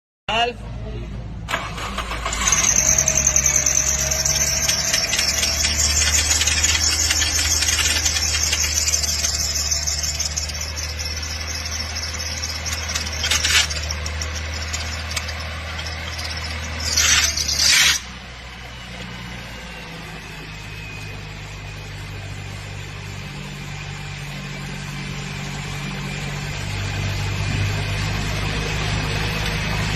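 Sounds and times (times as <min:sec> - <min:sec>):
car engine idling: 0:01.5 - 0:29.9
drive belt squealing: 0:01.5 - 0:29.9.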